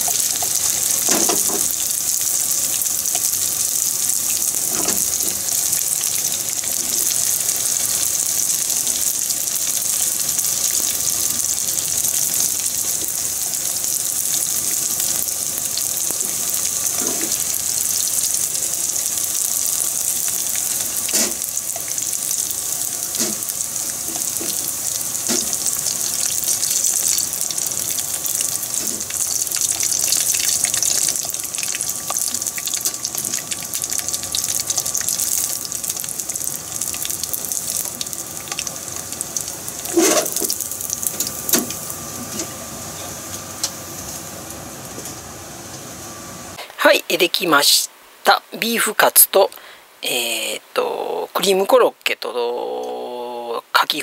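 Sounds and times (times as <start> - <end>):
squid deep-frying in hot oil: 0.0 - 46.6.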